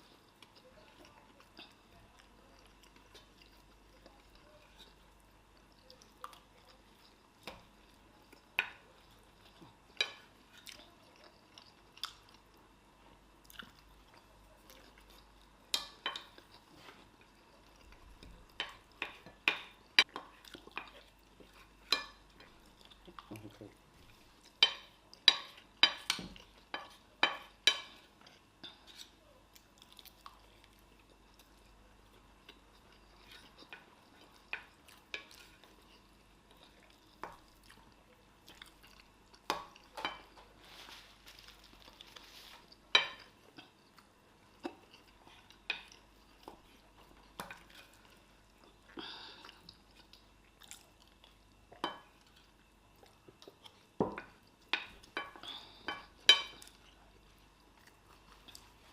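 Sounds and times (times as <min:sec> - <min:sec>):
people chewing: 0:00.0 - 0:58.9.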